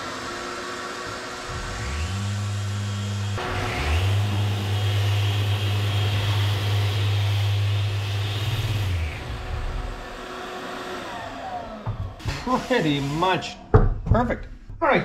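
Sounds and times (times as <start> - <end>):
orbital sander running: 0.0 - 13.6.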